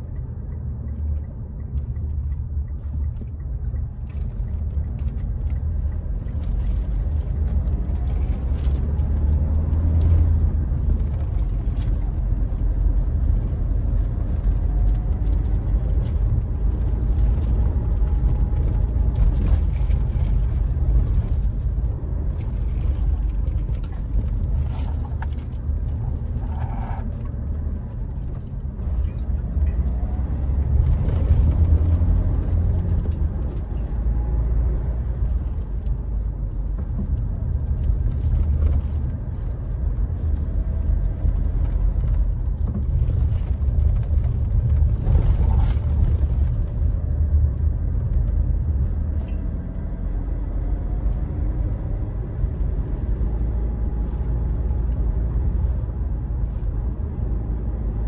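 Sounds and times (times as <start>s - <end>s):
diesel engine rumble: 0.0s - 58.0s
tyre and road noise: 0.0s - 58.0s.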